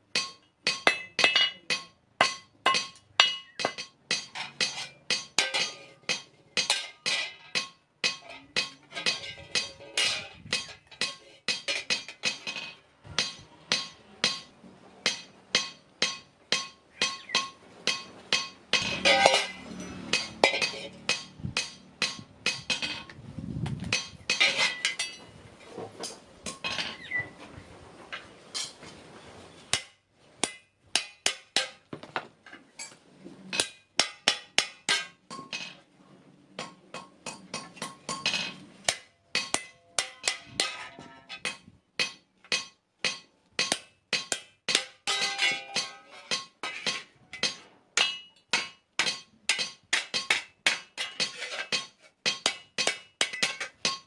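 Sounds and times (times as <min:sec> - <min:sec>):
hammer striking steel on anvil: 0:00.1 - 0:23.1, 0:23.9 - 0:25.2, 0:29.7 - 0:31.9, 0:33.6 - 0:35.6, 0:36.6 - 0:54.0.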